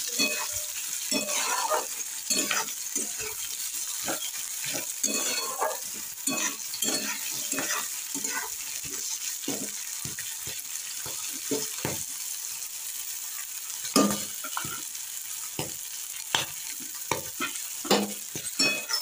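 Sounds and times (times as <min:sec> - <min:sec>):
vegetables sizzling in hot oil: 0:00.0 - 0:19.0
metal spatula scraping pan: 0:00.1 - 0:12.0, 0:13.8 - 0:14.8, 0:16.4 - 0:19.0.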